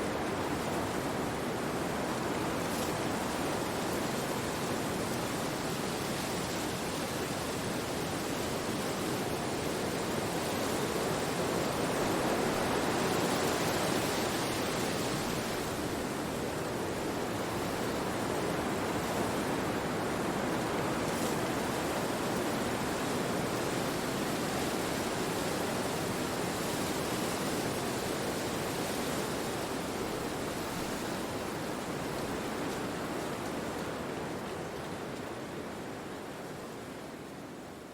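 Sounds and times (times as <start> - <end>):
wind rushing through trees: 0.0 - 37.9.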